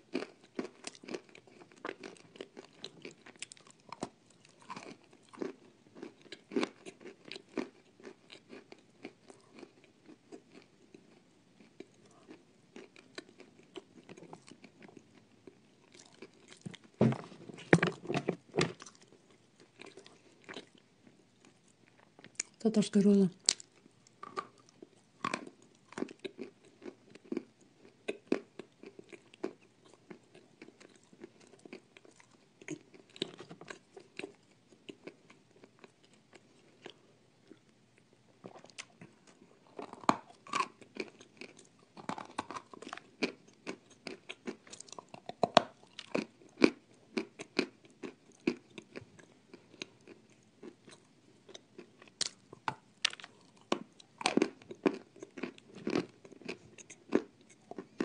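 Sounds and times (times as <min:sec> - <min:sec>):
crunching and chewing hard food: 0:00.0 - 0:58.0.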